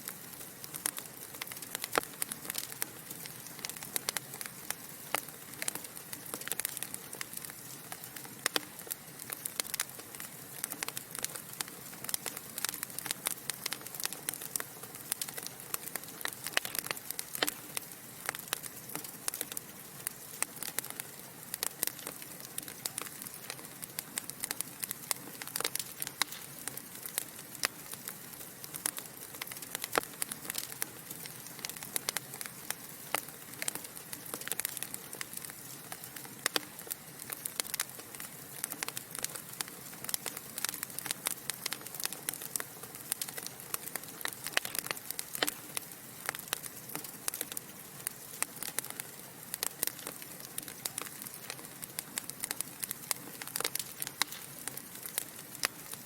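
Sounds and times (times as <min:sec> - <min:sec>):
fire soft hiss: 0:00.0 - 0:56.0
logs crackling and popping: 0:00.0 - 0:56.0.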